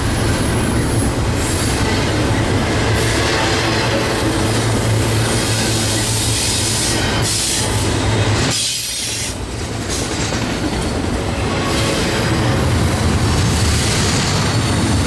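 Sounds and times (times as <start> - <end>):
low train rumble: 0.0 - 15.0
train wheels hissing and squealing: 0.0 - 15.0.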